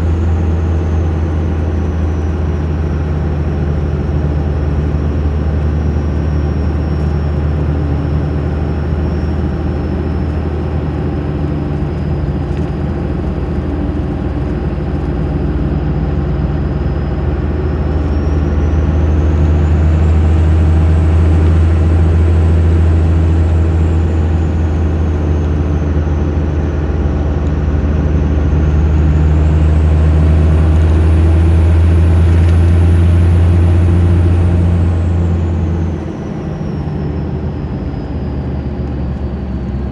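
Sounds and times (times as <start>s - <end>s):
diesel exhaust drone: 0.0s - 39.9s
turbo whistling: 0.1s - 39.9s.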